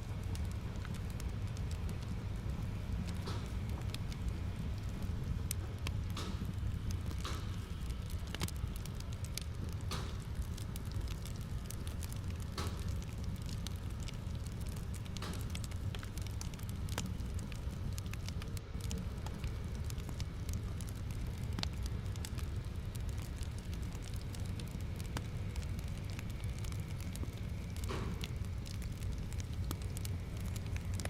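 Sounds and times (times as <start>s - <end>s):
fire popping: 0.0s - 31.0s
wood fire crackling: 0.0s - 31.0s.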